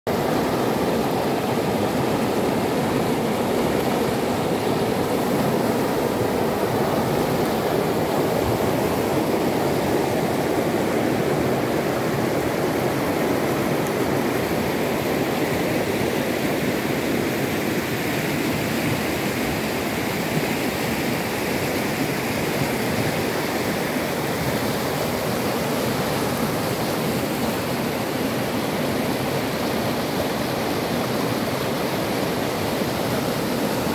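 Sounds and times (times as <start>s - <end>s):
river rushing over rocks: 0.1s - 33.9s.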